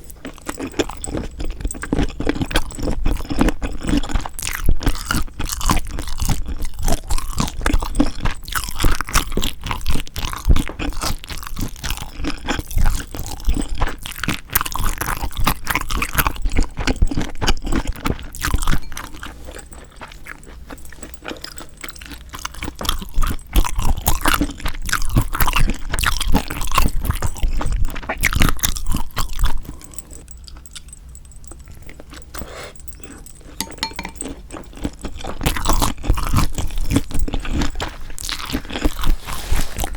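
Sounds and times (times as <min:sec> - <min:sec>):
wet chewing and crunching: 0:00.0 - 0:39.9.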